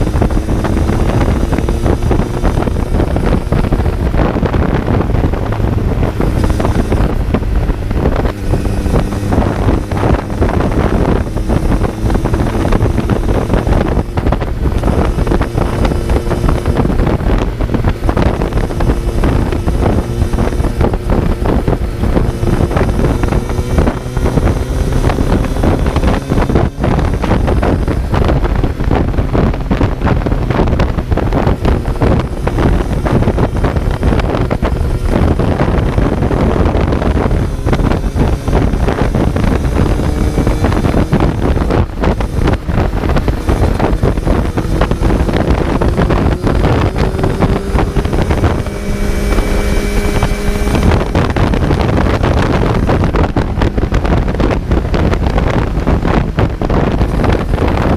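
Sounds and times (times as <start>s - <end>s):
motorcycle engine while riding: 0.0s - 57.9s
wind buffeting microphone: 0.0s - 57.9s.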